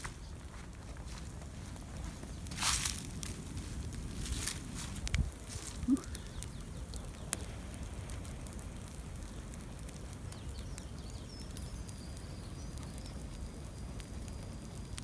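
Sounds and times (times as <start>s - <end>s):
open fire crackling: 0.0s - 15.0s.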